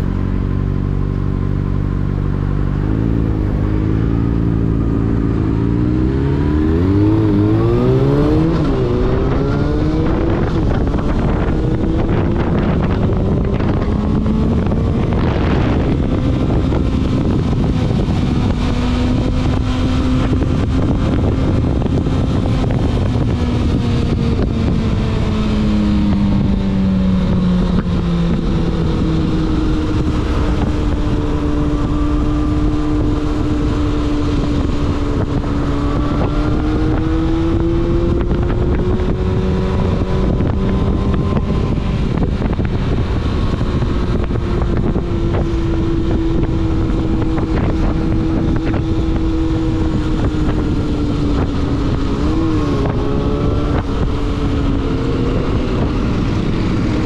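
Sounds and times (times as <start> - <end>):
motorcycle engine cruising: 0.0 - 57.0
road rumble: 0.0 - 57.0
wind noise on microphone: 0.0 - 57.0.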